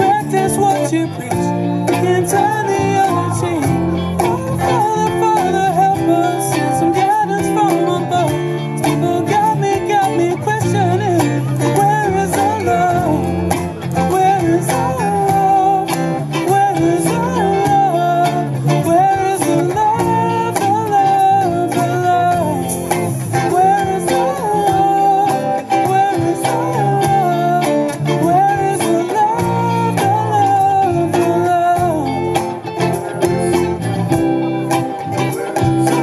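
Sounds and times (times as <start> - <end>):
acoustic guitar strumming: 0.0 - 36.0
man singing: 0.0 - 36.0.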